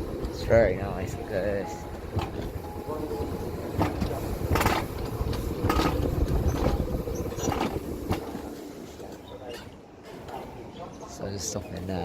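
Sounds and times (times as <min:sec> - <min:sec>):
clacks over rail joints: 0:00.0 - 0:10.6
coaster wheels rumbling on track: 0:00.0 - 0:12.0.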